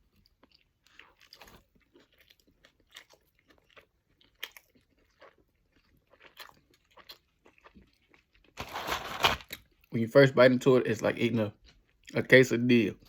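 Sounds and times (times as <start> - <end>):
person chewing food: 0.0 - 9.9, 11.6 - 12.2.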